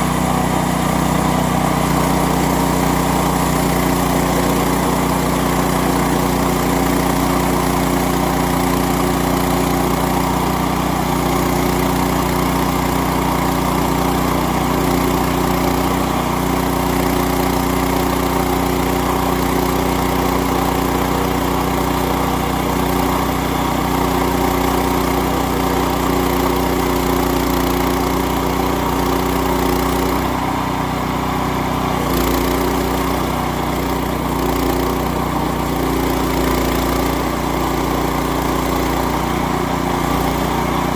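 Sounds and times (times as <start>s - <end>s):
bandsaw blade cutting wood: 0.0s - 40.9s
gas engine running: 0.0s - 40.9s.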